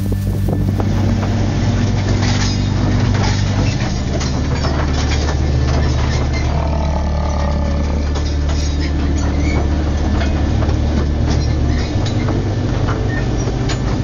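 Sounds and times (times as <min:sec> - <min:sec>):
cab rattling: 0:00.0 - 0:14.0
engine and drivetrain drone: 0:00.0 - 0:14.0.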